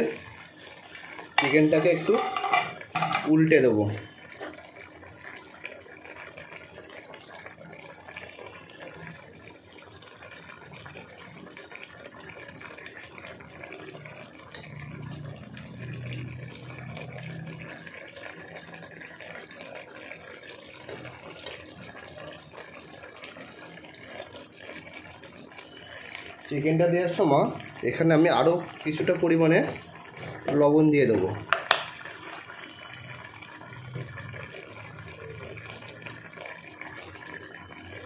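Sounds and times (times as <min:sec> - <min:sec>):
liquid bubbling in a pot: 0:00.0 - 0:38.0.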